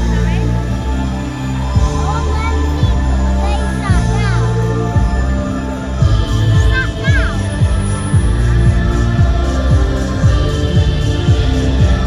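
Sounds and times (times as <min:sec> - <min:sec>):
held low musical notes: 0:00.0 - 0:12.0
drum beats: 0:01.7 - 0:12.0.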